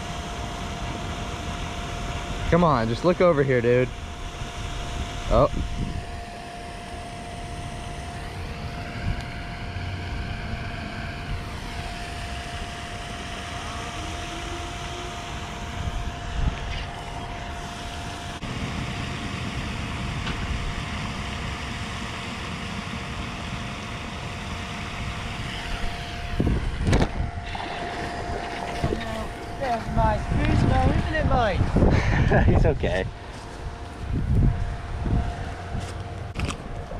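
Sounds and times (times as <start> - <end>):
faint steady hum: 0.0 - 36.9
wind buffeting microphone: 3.9 - 13.9, 15.5 - 36.9.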